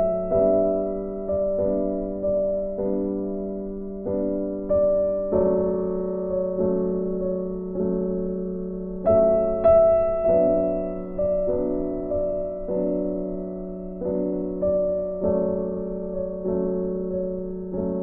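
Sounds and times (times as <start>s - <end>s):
slow gentle piano melody: 0.0s - 18.0s.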